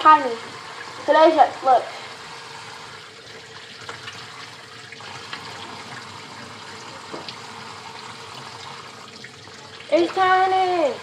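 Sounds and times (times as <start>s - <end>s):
water running over ice: 0.0s - 11.0s.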